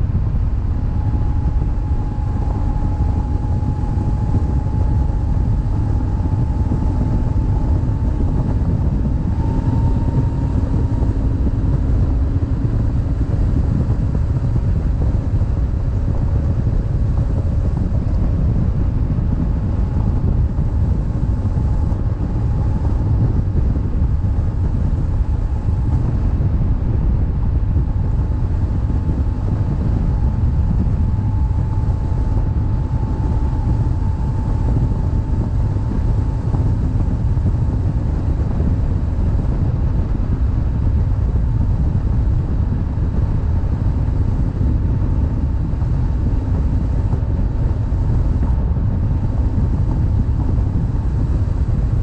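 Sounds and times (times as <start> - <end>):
motorcycle engine drone: 0.0 - 52.0
wind rushing over microphone: 0.0 - 52.0.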